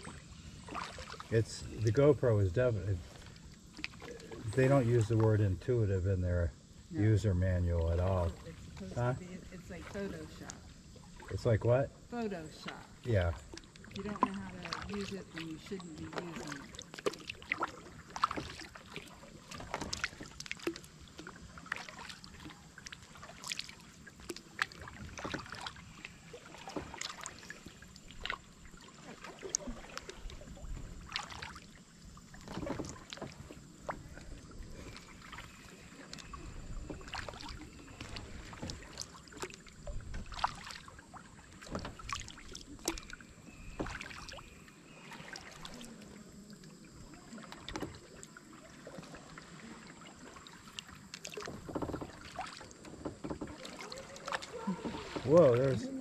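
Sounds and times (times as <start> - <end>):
small splashes and drips: 0.0 - 6.1, 6.8 - 56.0
paddle strokes in water: 0.0 - 56.0.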